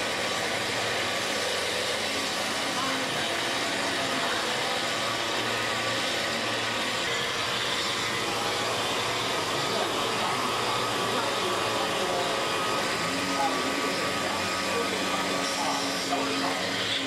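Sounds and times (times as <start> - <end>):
grinding wheel grinding glass: 0.0 - 17.0.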